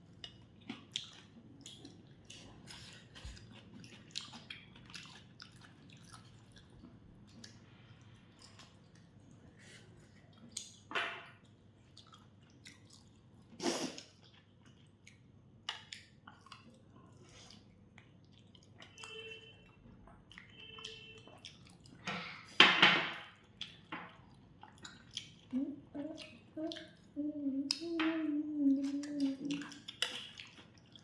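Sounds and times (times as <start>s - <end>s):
people chewing: 0.0s - 22.6s, 23.3s - 31.0s.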